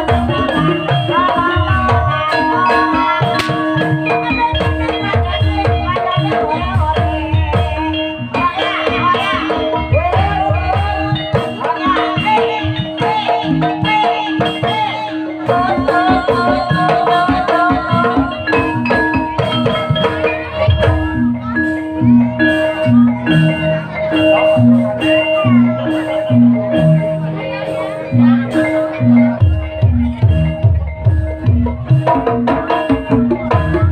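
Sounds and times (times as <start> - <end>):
gamelan keyed instruments ringing: 0.0 - 33.9
hand drum: 0.0 - 33.9.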